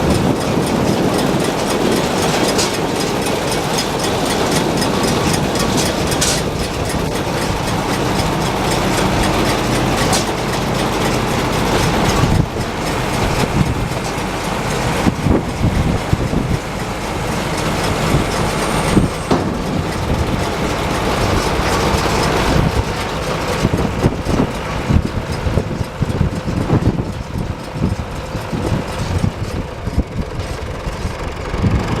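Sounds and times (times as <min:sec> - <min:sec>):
machinery clanking and rattling: 0:00.0 - 0:32.0
tractor engine running: 0:00.0 - 0:32.0.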